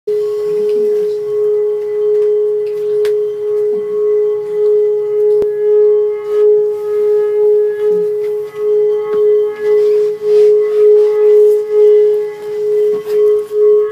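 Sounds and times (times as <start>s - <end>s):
singing bowl ringing: 0.1s - 13.9s.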